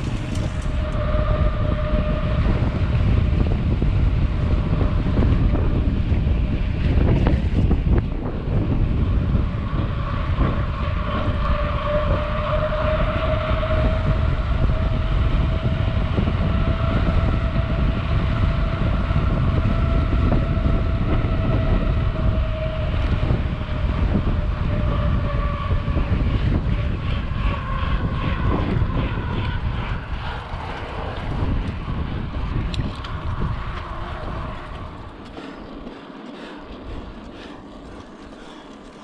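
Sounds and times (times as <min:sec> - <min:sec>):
spinning bike wheels whine: 0:00.0 - 0:39.0
wind rush over microphone: 0:00.0 - 0:39.0.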